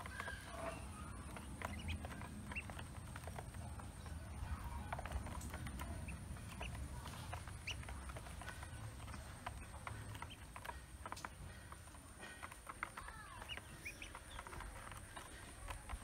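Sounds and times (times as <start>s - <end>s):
duckling peeps: 0.0s - 16.0s
ducklings pecking on plastic: 0.0s - 16.0s.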